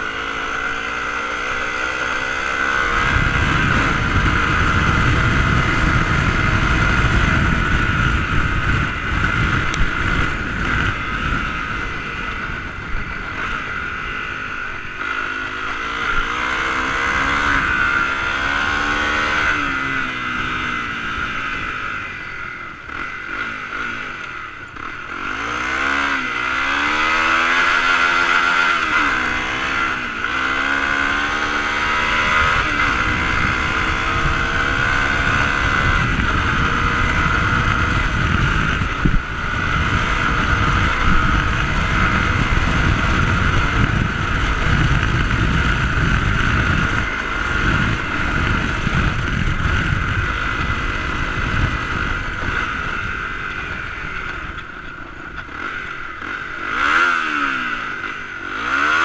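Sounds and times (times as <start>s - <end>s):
dirt bike engine: 0.0s - 59.0s
wind rumbling on microphone: 0.0s - 59.0s.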